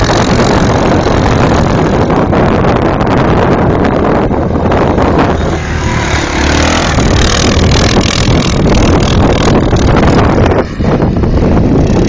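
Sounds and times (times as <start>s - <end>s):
atv engine riding hard: 0.0s - 12.0s
wind buffeting microphone: 0.0s - 12.0s.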